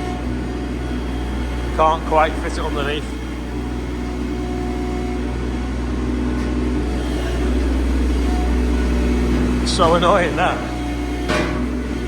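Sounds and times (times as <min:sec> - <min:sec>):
machine engine running: 0:00.0 - 0:12.0.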